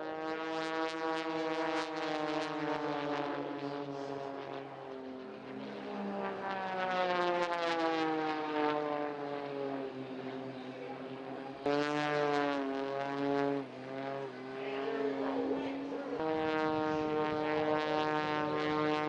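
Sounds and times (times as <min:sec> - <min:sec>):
model airplane motor droning: 0:00.0 - 0:19.0.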